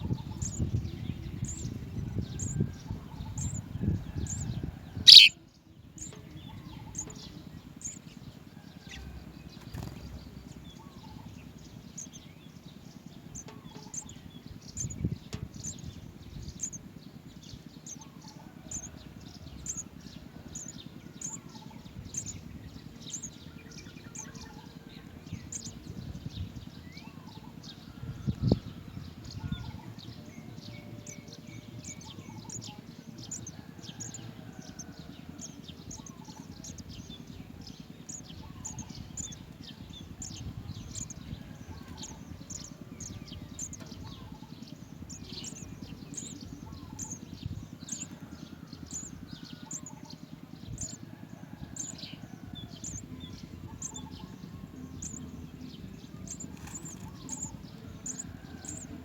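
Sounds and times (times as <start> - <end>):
sparrows chirping: 0.0 - 59.0
steady low rumble: 0.0 - 59.0.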